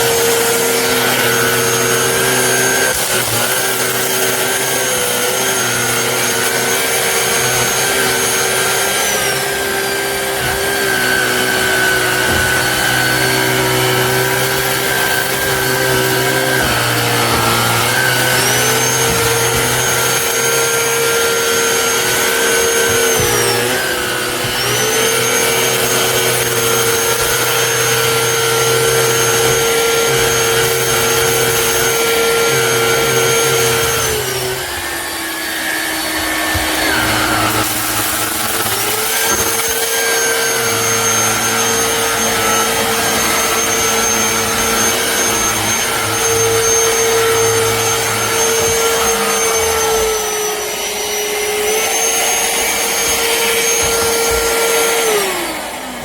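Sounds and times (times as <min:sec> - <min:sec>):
vacuum motor whine: 0:00.0 - 0:56.0.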